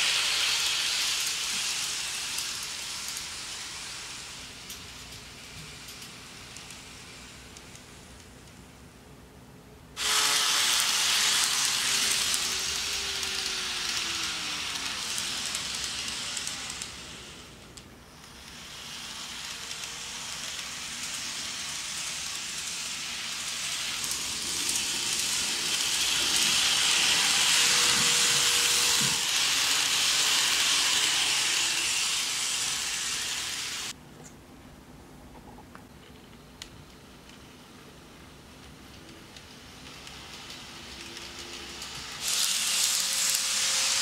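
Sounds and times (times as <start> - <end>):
model train wheels on rail: 0.0 - 8.7, 10.0 - 34.0, 36.0 - 44.0
faint motor whine: 0.0 - 44.0.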